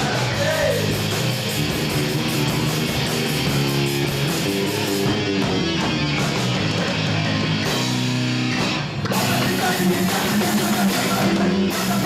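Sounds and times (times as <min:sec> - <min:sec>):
distorted electric guitars: 0:00.0 - 0:12.0
heavy rock band playing: 0:00.0 - 0:12.0.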